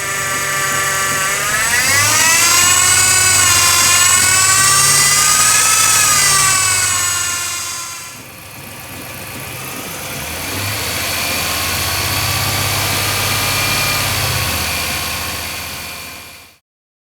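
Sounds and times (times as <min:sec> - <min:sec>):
truck engine idling: 0:00.0 - 0:16.5.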